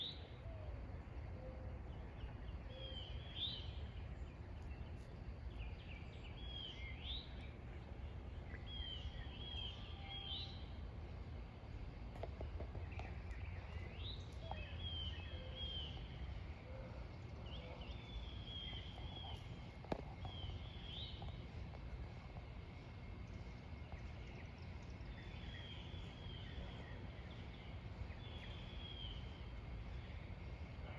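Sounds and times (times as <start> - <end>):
low background rumble: 0.0 - 30.9
small birds chirping: 1.2 - 30.9.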